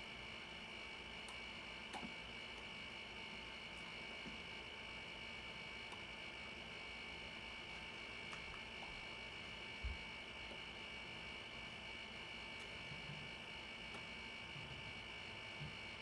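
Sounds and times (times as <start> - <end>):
electrical hum and hiss: 0.0 - 16.0.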